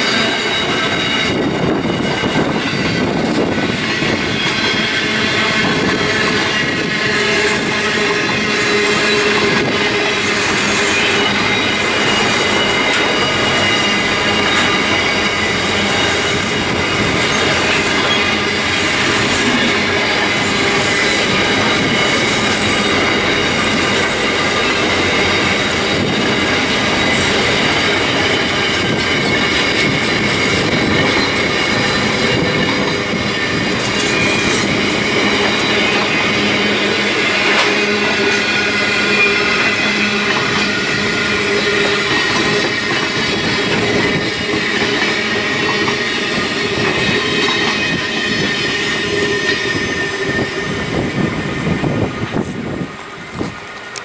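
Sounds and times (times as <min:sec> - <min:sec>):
high-pitched wheel squeal: 0:00.0 - 0:53.5
steel wheels on rails: 0:00.0 - 0:54.0.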